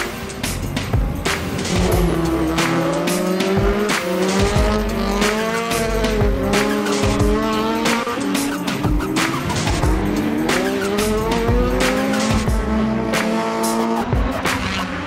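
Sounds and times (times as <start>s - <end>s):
rally car engine revving: 0.3s - 15.0s.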